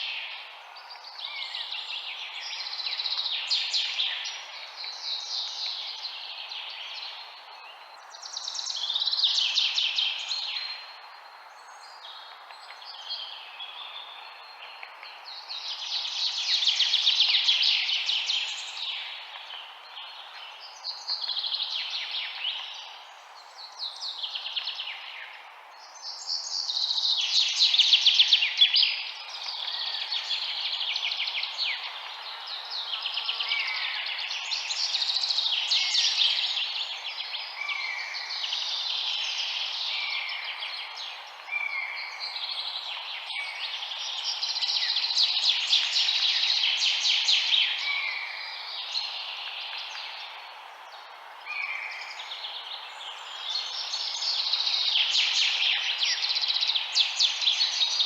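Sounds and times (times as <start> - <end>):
background hiss: 0.0 - 58.0
songbirds chirping and trilling: 0.0 - 58.0.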